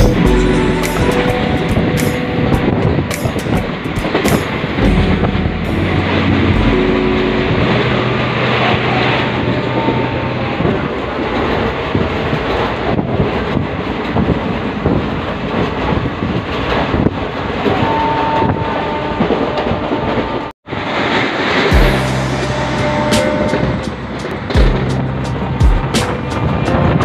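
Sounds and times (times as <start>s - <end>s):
train wheels rumbling and rattling: 0.0s - 27.0s.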